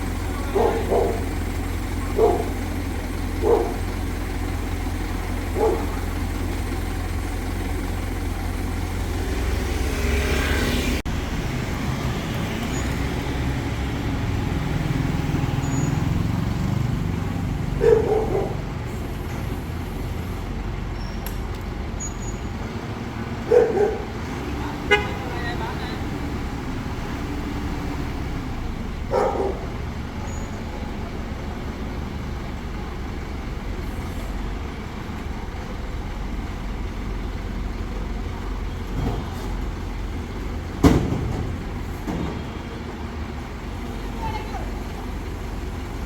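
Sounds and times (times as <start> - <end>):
heavy engine humming: 0.0 - 46.0.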